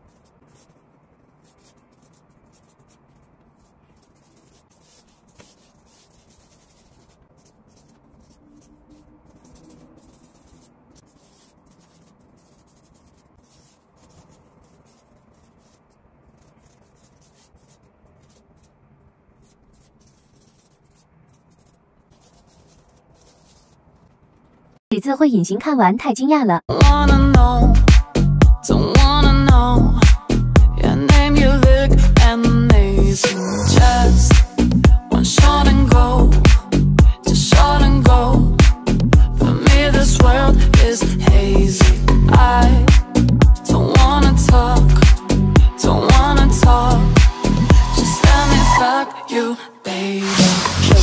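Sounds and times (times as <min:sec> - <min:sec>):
felt-tip pen sketching on paper: 0:00.0 - 0:24.6, 0:29.1 - 0:49.5.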